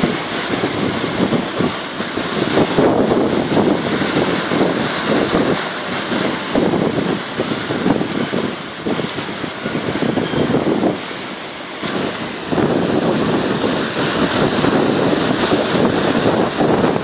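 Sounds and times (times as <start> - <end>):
breaking waves rushing: 0.0 - 17.0
wind buffeting microphone: 0.0 - 17.0.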